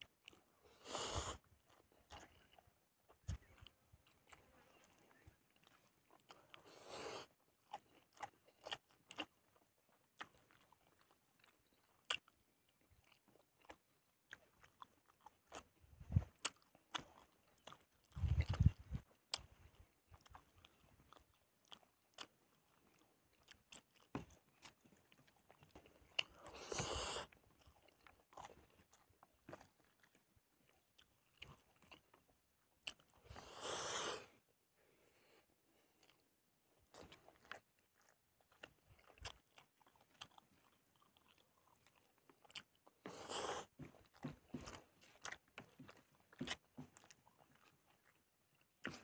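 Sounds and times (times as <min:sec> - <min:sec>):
person chewing: 0:00.0 - 0:34.4, 0:35.8 - 0:49.0.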